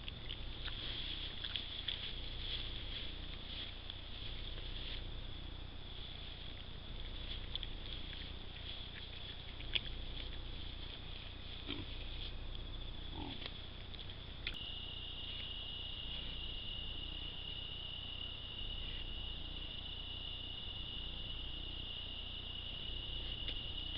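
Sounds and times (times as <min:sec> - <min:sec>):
pig snuffling: 0:00.0 - 0:21.6
insects trilling: 0:00.0 - 0:23.9.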